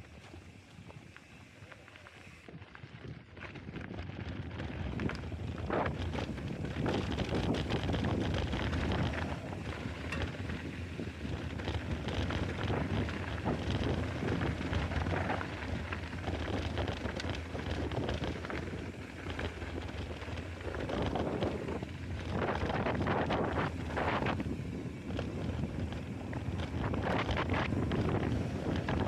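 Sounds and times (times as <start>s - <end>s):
tyres rolling on dirt trail: 0.0s - 29.0s
wind on microphone: 2.8s - 29.0s
bike knocks and rattles: 3.3s - 29.0s.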